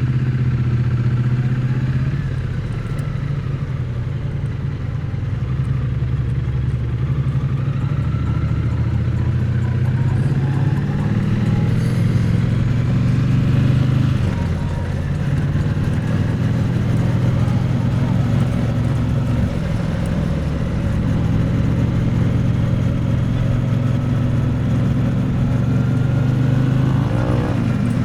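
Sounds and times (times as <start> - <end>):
motorcycle engine and exhaust: 0.0 - 28.0.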